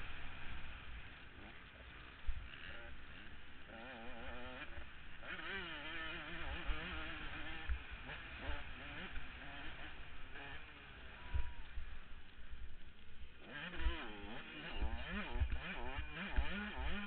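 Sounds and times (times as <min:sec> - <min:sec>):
two-stroke motorbike revving: 0:00.0 - 0:17.0.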